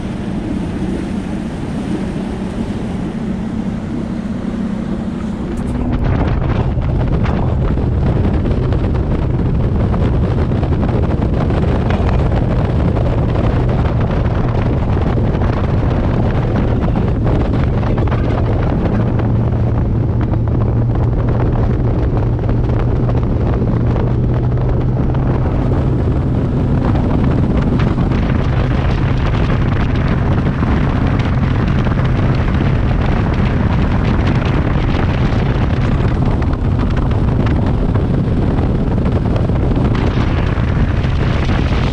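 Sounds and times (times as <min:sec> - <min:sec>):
boat engine running: 0:00.0 - 0:41.9
wind blowing across microphone: 0:00.0 - 0:41.9.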